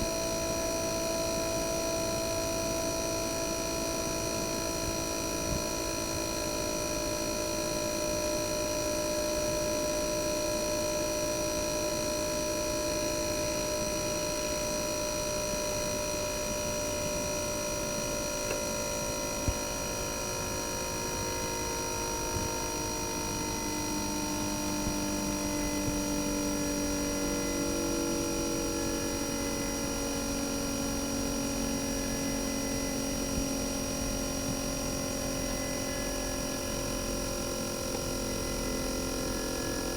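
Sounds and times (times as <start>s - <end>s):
air conditioner compressor humming: 0.0s - 39.9s.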